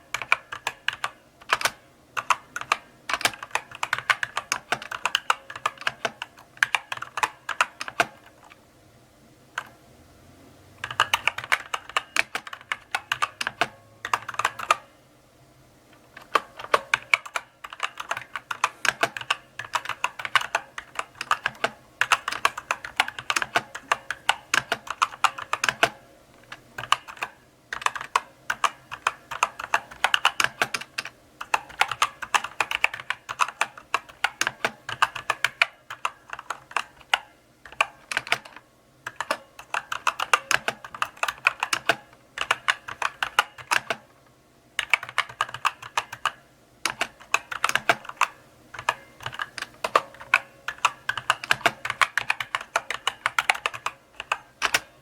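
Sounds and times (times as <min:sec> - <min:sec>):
mechanical keyboard typing: 0:00.0 - 0:08.6, 0:10.8 - 0:14.9, 0:16.0 - 0:44.1, 0:44.8 - 0:55.0.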